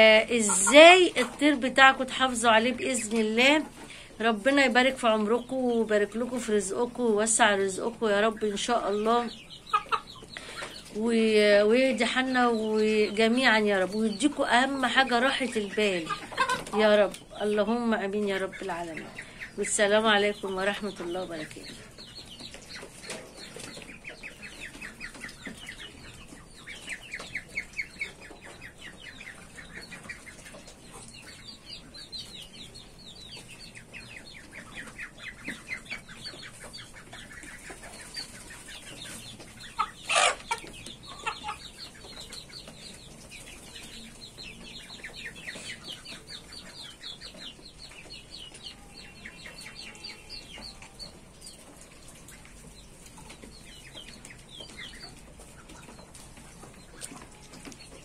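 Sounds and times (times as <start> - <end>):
chickens and ducks calling: 0.0 - 58.0.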